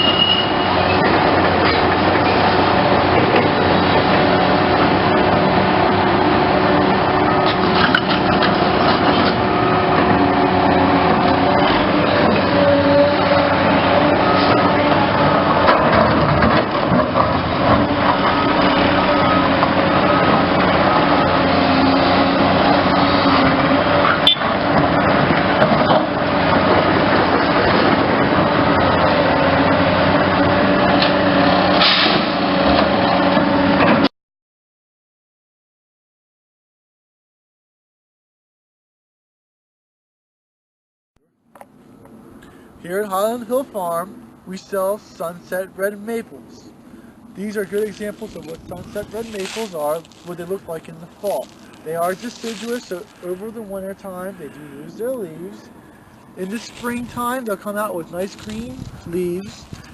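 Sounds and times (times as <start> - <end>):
excavator engine running: 0.0 - 34.1, 41.5 - 59.9.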